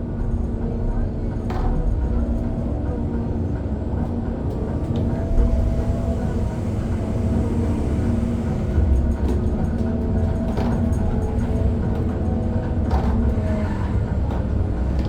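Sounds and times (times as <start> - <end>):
deep machinery engine drone: 0.0 - 15.0.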